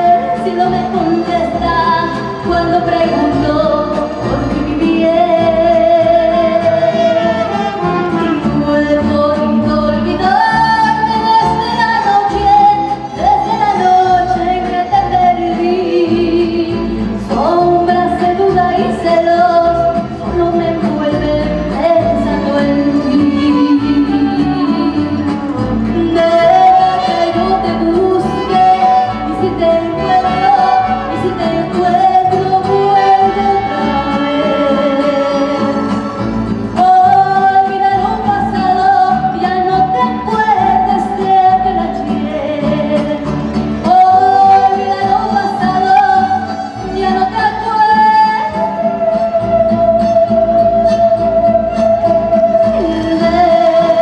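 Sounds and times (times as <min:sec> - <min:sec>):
instrumental backing music: 0:00.0 - 0:54.0
woman singing ballad: 0:00.0 - 0:54.0.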